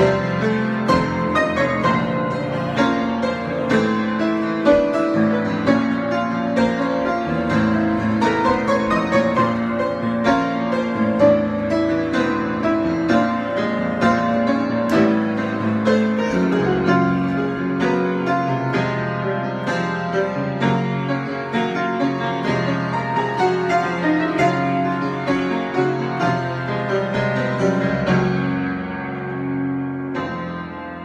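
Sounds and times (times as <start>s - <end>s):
solo piano improvisation: 0.0s - 31.0s.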